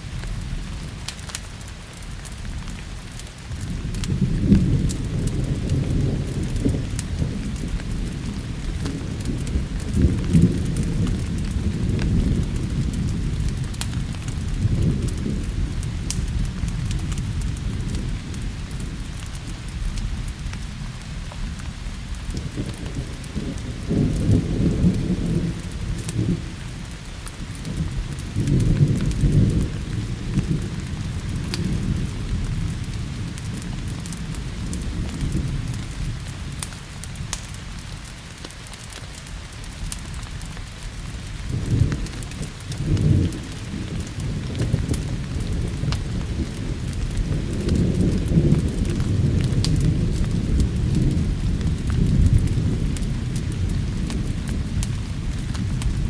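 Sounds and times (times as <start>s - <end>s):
steady rain: 0.0s - 56.0s
wood fire crackling: 0.0s - 56.0s
rolling thunder: 3.5s - 37.3s, 41.0s - 56.0s.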